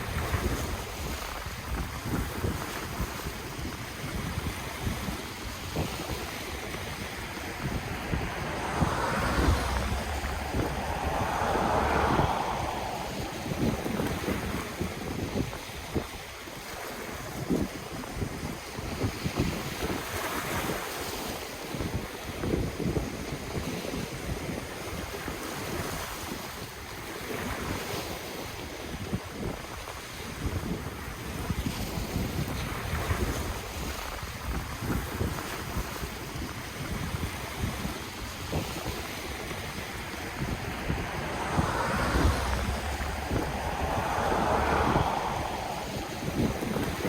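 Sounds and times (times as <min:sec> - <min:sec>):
ocean waves on the shore: 0:00.0 - 0:47.0
wind buffeting the microphone: 0:00.0 - 0:47.0.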